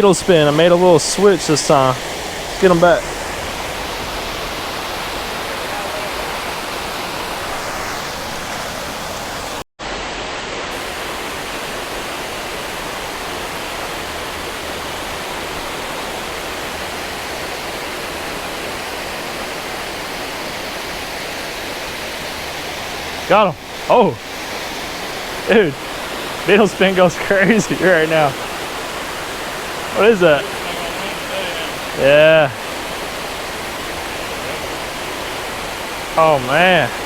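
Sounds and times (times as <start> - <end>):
water pouring over spillway: 0.0 - 9.5, 10.7 - 37.0.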